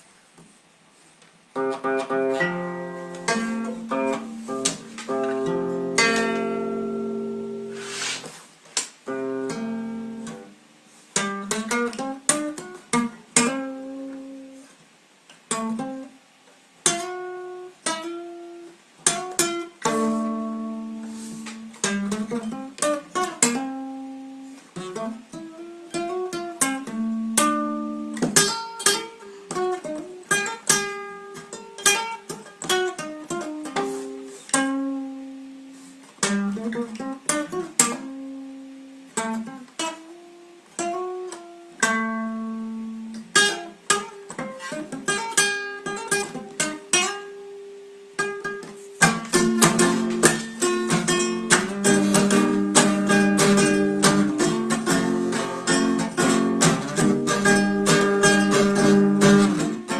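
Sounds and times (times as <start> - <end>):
acoustic guitar chords strummed: 1.5 - 8.4, 9.0 - 14.7, 16.8 - 59.9.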